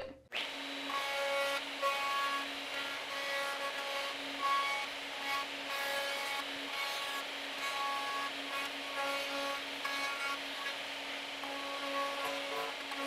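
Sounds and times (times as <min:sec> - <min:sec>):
router trimming acrylic: 0:00.3 - 0:13.0.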